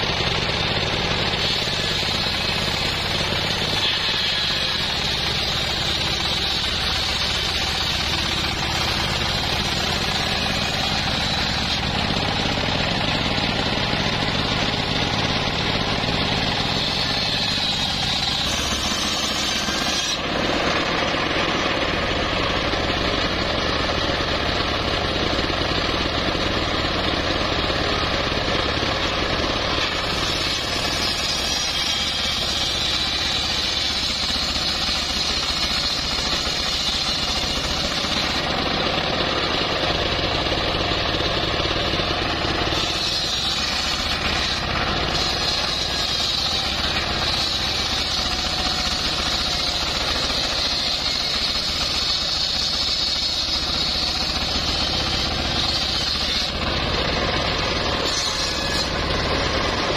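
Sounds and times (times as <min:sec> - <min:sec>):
circular saw blade ripping log: 0:00.0 - 0:21.8, 0:28.2 - 0:40.5, 0:41.8 - 0:59.9
engine drone: 0:00.0 - 0:59.9.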